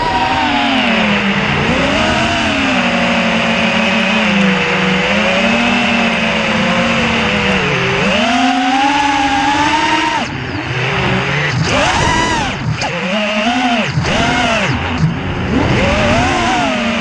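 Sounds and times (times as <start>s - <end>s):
quadcopter propellers whining: 0.0s - 17.0s.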